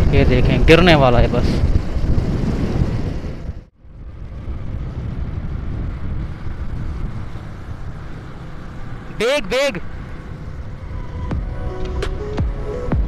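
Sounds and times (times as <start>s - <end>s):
wind rush and road noise: 0.0s - 13.0s.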